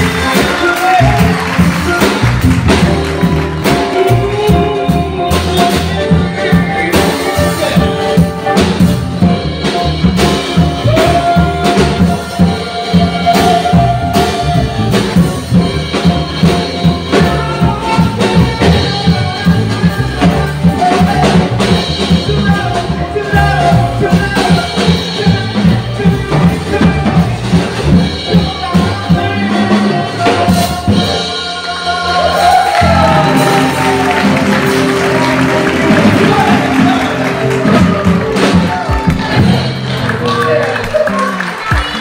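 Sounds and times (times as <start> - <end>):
man singing: 0.0 - 40.8
jazz band playing: 0.0 - 42.0.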